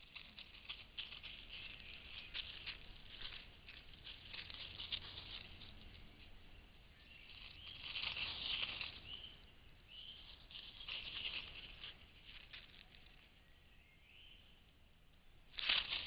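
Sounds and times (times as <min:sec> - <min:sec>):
rustling in dry leaves: 0:00.0 - 0:14.8, 0:15.4 - 0:16.0.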